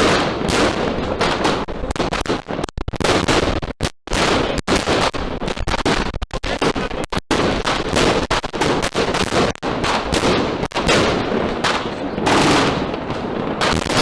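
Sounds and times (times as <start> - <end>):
fireworks launches and bursts: 0.0 - 14.0.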